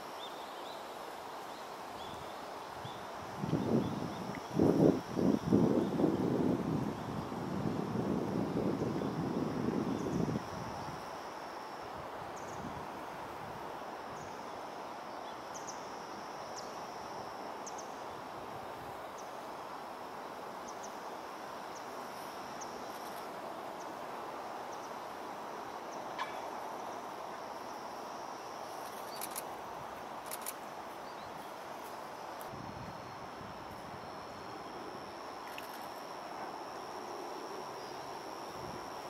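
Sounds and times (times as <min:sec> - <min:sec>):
faint high insect trill: 0:00.0 - 0:39.0
steady background hiss: 0:00.0 - 0:39.0.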